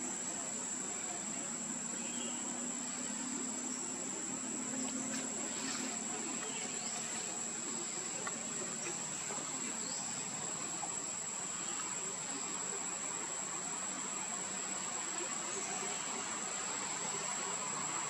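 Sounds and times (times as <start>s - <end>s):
high-pitched insect chorus buzz: 0.0s - 18.0s.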